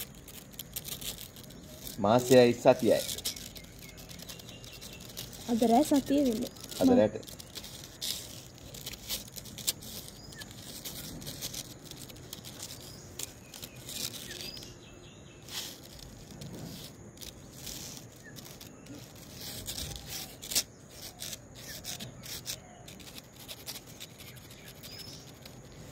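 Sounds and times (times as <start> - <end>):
kitten claws scratching a wall: 0.0 - 25.9.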